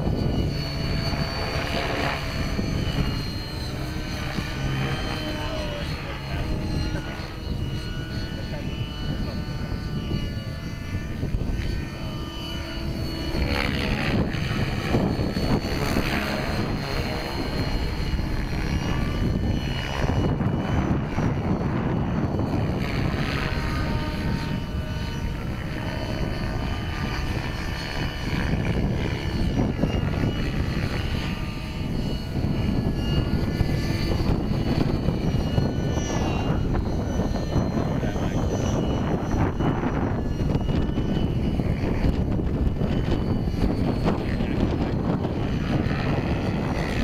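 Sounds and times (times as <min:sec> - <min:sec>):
model helicopter rotor and motor: 0:00.0 - 0:47.0
wind rumble on microphone: 0:00.0 - 0:47.0.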